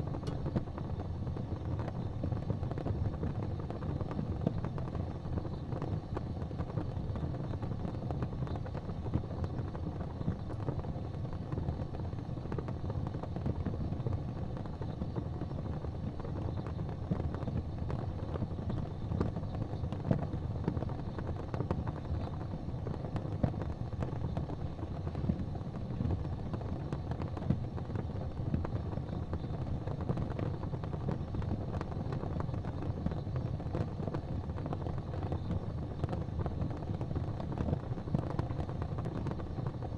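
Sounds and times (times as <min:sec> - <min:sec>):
fire crackling and popping: 0:00.0 - 0:39.9
fire roaring: 0:00.0 - 0:39.9.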